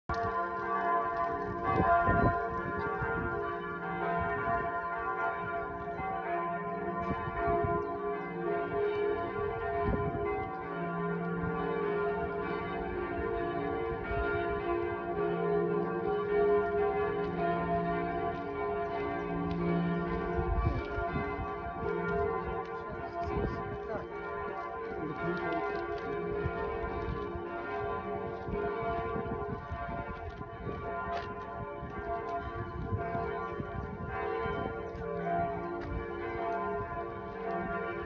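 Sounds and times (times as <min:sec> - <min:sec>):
church bells pealing: 0:00.1 - 0:38.0.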